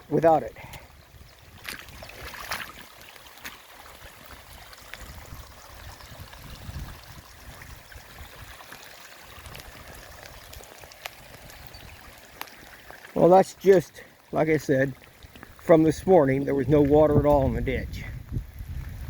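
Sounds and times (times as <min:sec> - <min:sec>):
water runoff rushing: 0:00.0 - 0:19.0.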